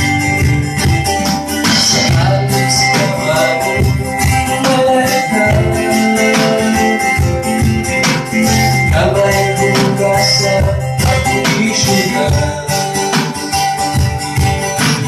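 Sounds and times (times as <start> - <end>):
low bass notes: 0.0 - 12.8
acoustic guitar strumming: 0.0 - 15.0.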